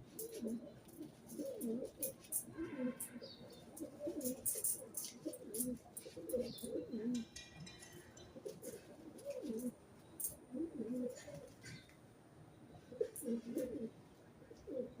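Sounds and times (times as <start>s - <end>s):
pigeons cooing: 0.0s - 7.4s, 8.3s - 12.0s, 12.8s - 15.0s.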